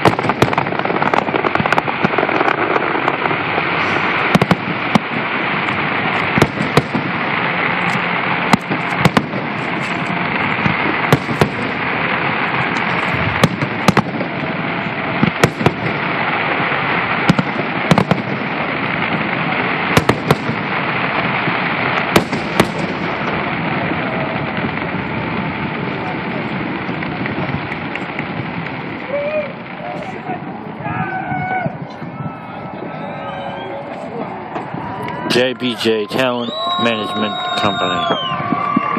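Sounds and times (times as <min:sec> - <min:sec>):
fireworks bursting in sharp bangs: 0:00.0 - 0:38.9.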